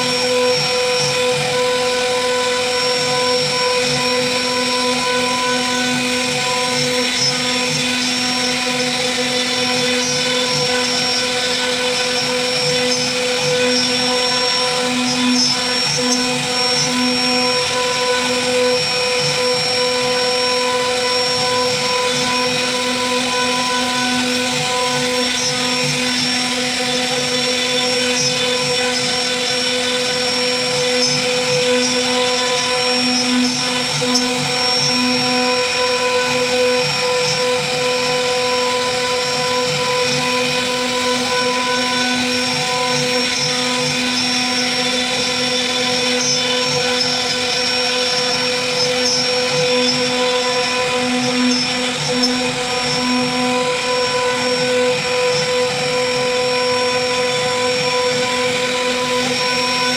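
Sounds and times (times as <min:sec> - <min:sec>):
bit cutting wood: 0:00.0 - 0:59.9
router spindle whining: 0:00.0 - 0:59.9.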